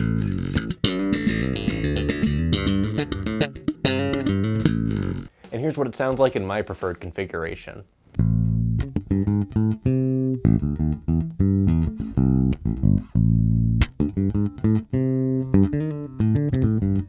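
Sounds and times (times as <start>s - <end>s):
electric bass played fingerstyle: 0.0s - 5.3s, 8.2s - 17.0s.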